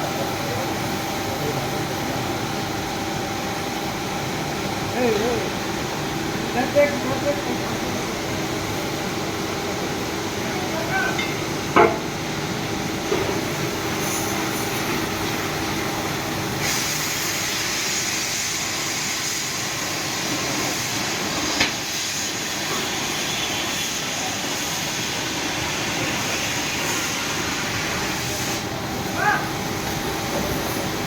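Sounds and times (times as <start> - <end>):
furnace machinery rumble and hiss: 0.0 - 31.0.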